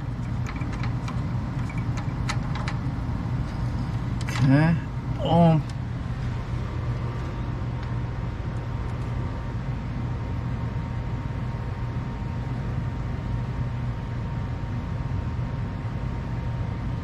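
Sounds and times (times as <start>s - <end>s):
steady low hum: 0.0s - 17.0s
faint high whine: 2.9s - 17.0s.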